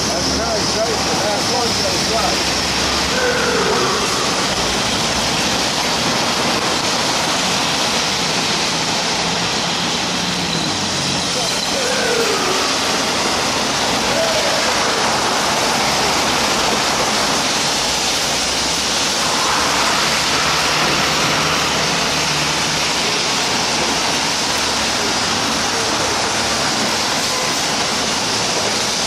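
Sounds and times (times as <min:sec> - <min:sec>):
rain hiss: 0:00.0 - 0:29.0
traffic on wet street: 0:00.0 - 0:29.0.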